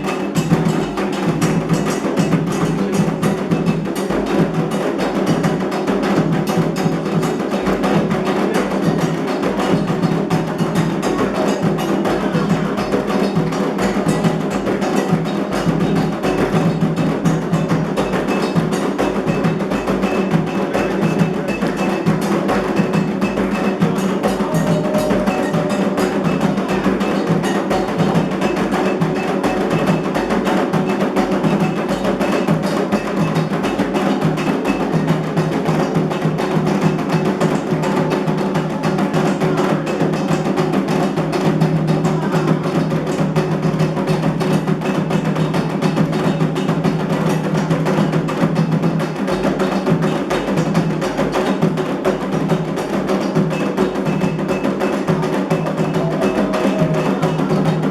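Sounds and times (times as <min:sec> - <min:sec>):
hand drums playing a dense rhythm: 0:00.0 - 0:57.9
sharp clicking percussion: 0:00.0 - 0:57.9.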